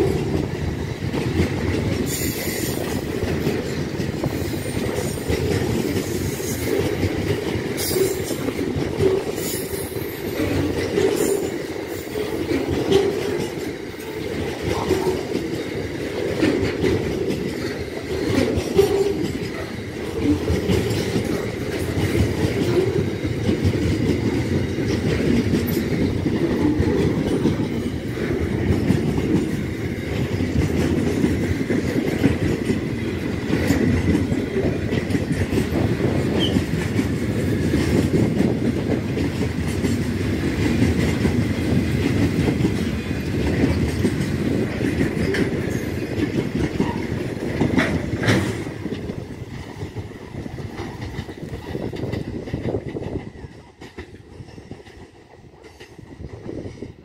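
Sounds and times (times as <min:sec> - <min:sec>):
steel wheels clicking over rail joints: 0:00.0 - 0:56.9
freight train wagons rolling past: 0:00.0 - 0:57.0.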